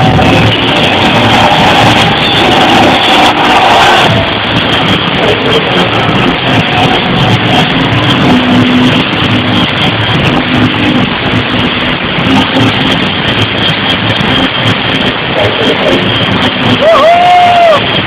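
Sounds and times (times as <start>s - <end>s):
distorted dance-pop music: 0.0s - 18.0s.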